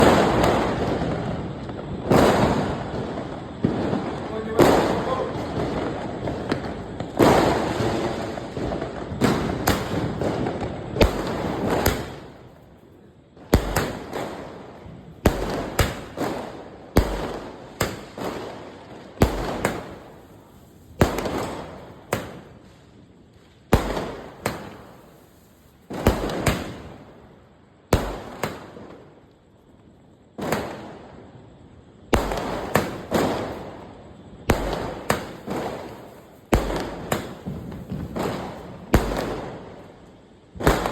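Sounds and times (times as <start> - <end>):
fireworks bangs: 0.0 - 29.3, 30.3 - 40.9.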